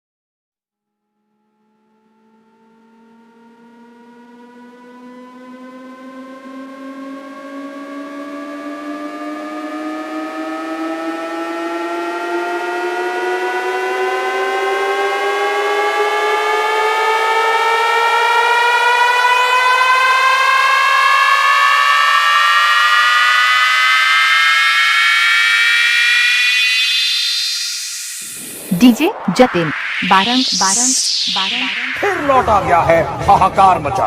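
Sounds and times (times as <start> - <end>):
synthesized rising tone: 1.3 - 33.8.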